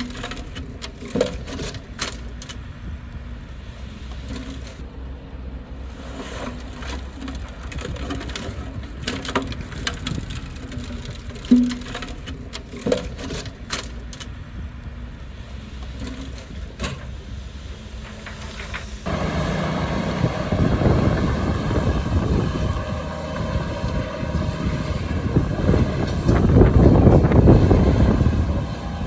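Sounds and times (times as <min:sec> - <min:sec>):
diesel machinery engine hum: 0:00.0 - 0:29.0.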